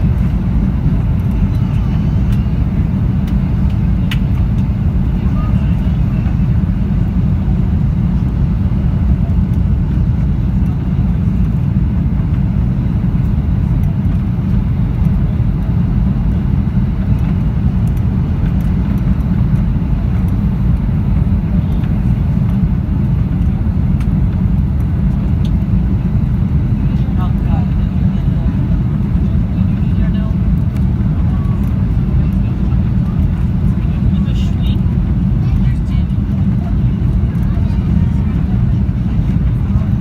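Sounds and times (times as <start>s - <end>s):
jet engines in airplane cabin: 0.0s - 40.0s.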